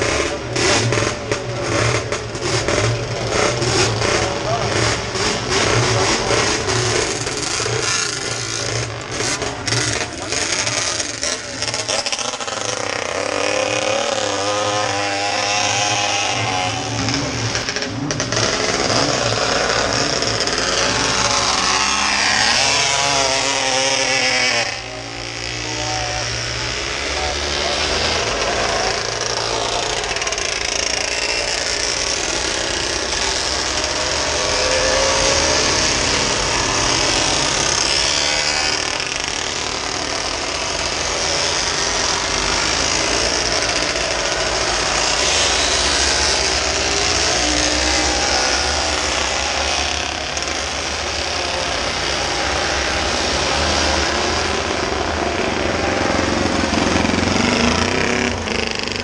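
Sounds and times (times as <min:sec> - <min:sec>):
motorcycle engines racing: 0:00.0 - 0:59.0.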